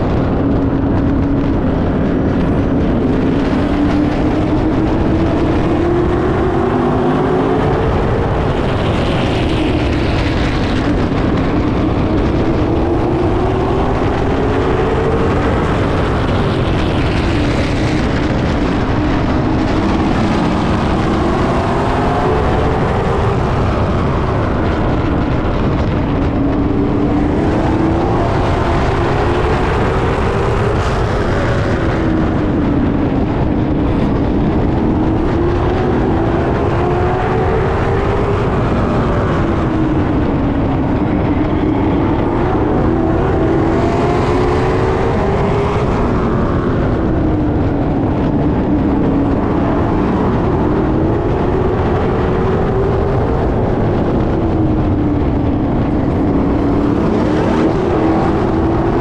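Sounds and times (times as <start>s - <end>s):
race car engines running hard: 0.0s - 59.0s.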